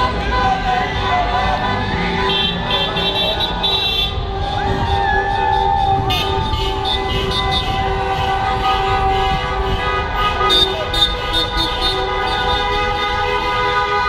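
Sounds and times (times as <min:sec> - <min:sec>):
car horns honking: 0:00.0 - 0:14.0.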